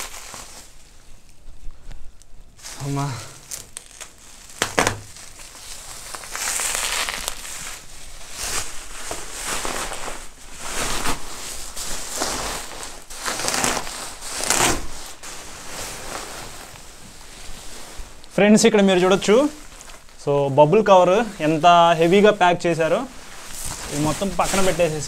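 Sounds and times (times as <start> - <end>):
bubble wrap crinkling: 0.0 - 25.0.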